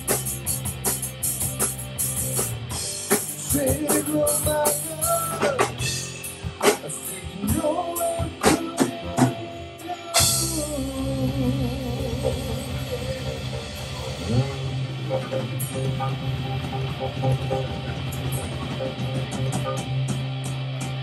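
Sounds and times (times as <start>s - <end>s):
bending guitar line: 0.0s - 21.0s
live rock band: 0.0s - 21.0s.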